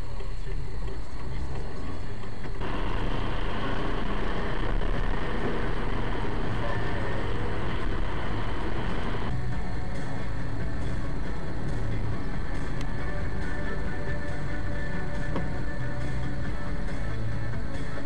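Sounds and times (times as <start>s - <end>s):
engine and road rumble: 0.0s - 18.0s
tyres hissing on wet road: 1.1s - 18.0s.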